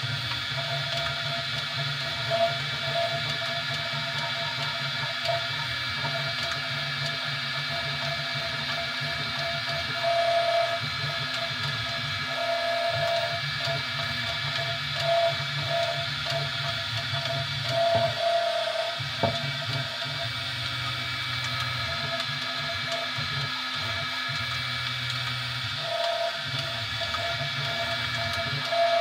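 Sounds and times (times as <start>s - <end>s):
stepper motor tone: 0.0s - 6.4s, 7.6s - 29.0s
fan whine and hum: 0.0s - 29.0s.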